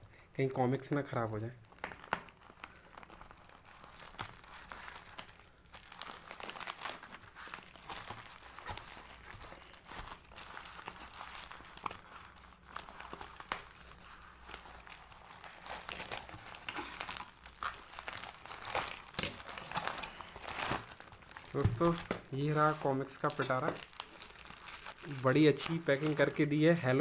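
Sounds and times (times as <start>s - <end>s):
plastic wrapping crinkling and tearing: 0.8s - 27.0s.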